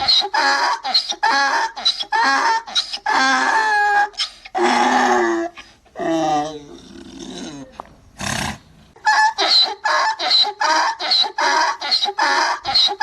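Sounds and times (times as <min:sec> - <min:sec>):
donkey braying: 0:00.0 - 0:07.7, 0:09.0 - 0:13.0.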